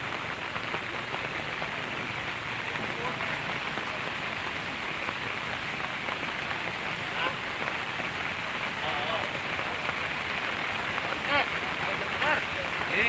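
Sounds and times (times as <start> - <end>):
rain falling on a flooded road: 0.0 - 13.0
faint voices: 0.1 - 13.0.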